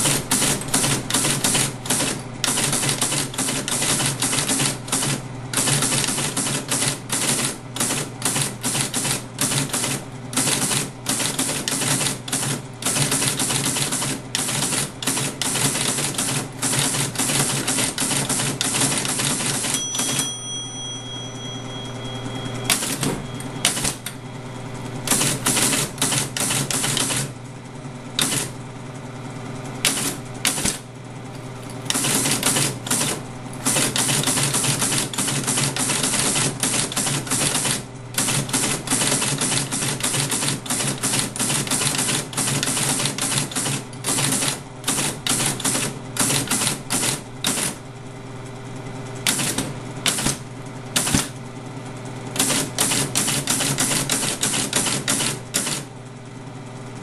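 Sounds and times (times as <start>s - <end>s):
teletype printing clatter: 0.0s - 20.3s, 22.7s - 24.1s, 25.0s - 27.4s, 28.2s - 28.5s, 29.8s - 30.8s, 31.8s - 47.8s, 49.2s - 51.4s, 52.3s - 55.9s.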